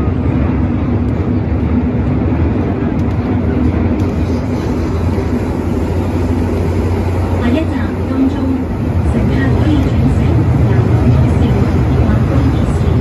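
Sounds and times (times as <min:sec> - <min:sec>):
metro train rumbling in tunnel: 0:00.0 - 0:13.0.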